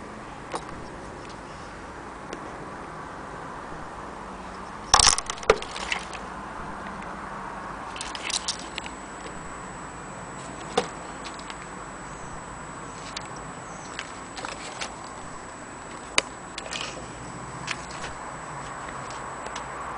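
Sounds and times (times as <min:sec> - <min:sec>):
steady hiss: 0:03.4 - 0:19.9.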